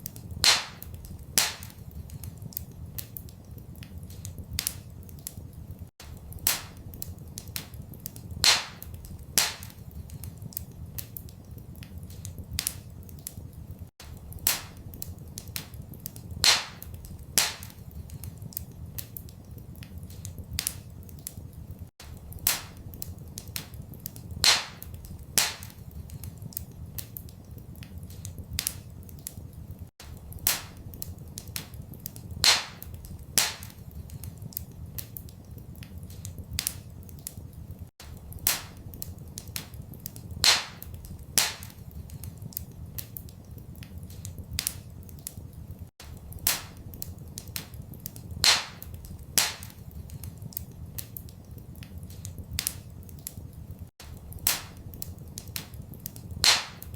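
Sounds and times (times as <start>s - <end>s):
fire crackling in a fireplace: 0.0s - 56.9s.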